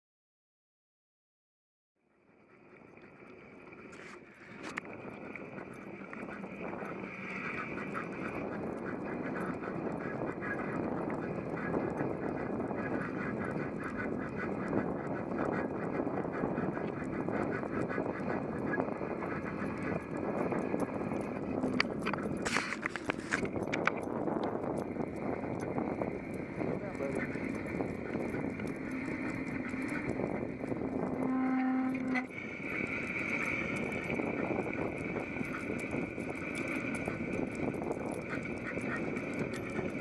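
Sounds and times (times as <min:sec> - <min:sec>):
wind on microphone: 0:02.7 - 0:40.0
dog paws trotting on pavement: 0:05.6 - 0:31.2, 0:33.2 - 0:40.0.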